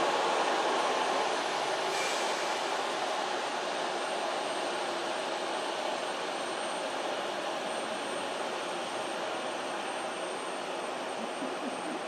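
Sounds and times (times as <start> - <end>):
distant jet engine noise: 0.0 - 12.0.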